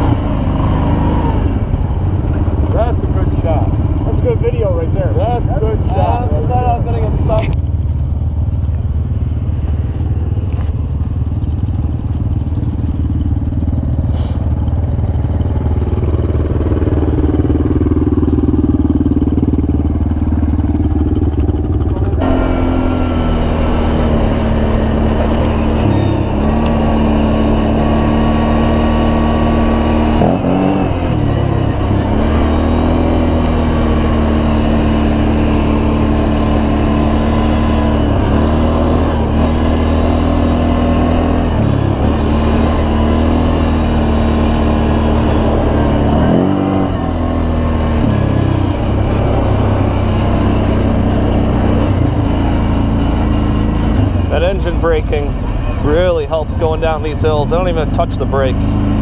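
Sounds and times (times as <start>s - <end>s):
another engine: 0.0s - 59.0s
atv engine running: 0.0s - 59.0s.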